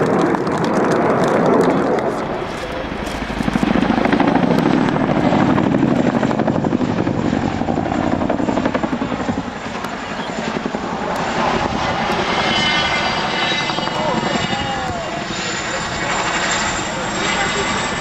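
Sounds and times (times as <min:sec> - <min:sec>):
helicopter rotor chopping: 0:00.0 - 0:18.0.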